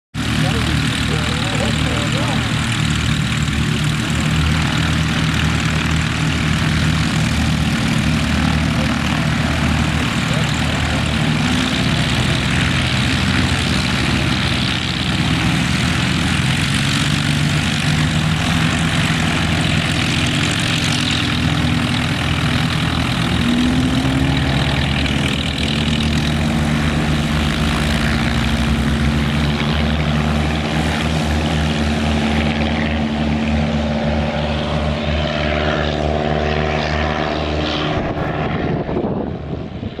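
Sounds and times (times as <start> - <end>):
propeller plane engines droning: 0.1 - 40.0.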